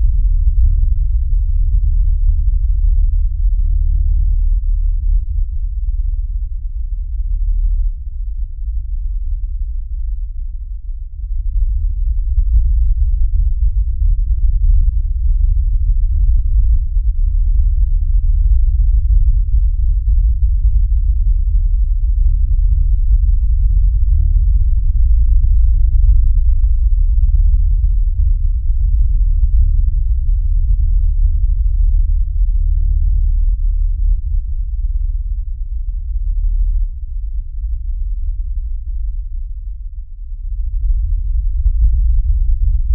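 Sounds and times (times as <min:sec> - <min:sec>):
deep rumbling drone: 0:00.0 - 0:42.9.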